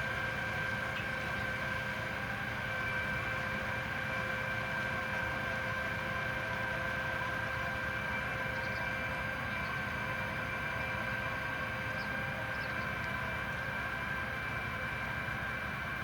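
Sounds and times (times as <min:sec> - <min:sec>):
high mechanical whine: 0:00.0 - 0:16.0
low machinery rumble: 0:00.0 - 0:16.0.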